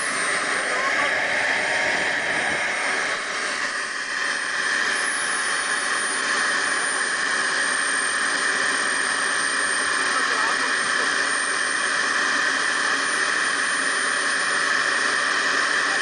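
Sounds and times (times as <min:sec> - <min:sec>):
jet turbine engine roaring: 0:00.0 - 0:16.0.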